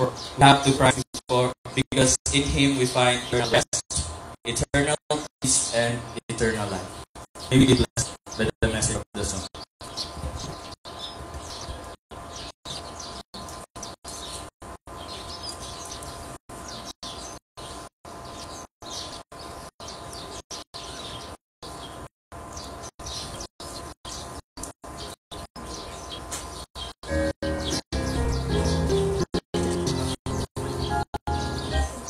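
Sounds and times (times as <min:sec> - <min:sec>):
small birds chirping and twittering: 0:00.0 - 0:32.0.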